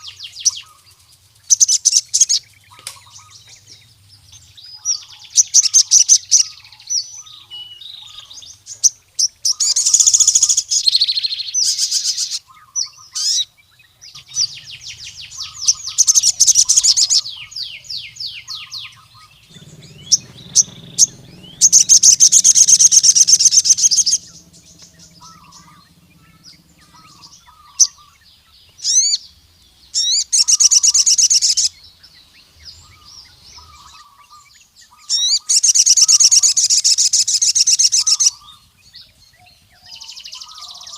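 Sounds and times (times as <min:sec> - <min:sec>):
bird singing fast trills: 0:00.0 - 0:40.9
soft bird chirps: 0:00.0 - 0:40.9.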